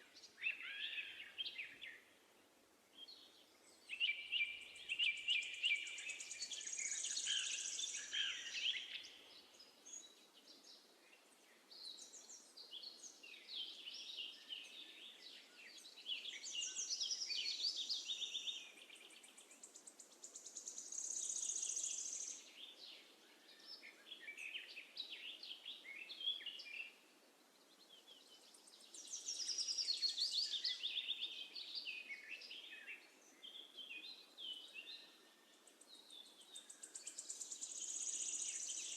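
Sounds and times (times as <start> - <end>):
faint steady hiss: 0.0 - 38.9
small songbirds singing: 0.0 - 38.9.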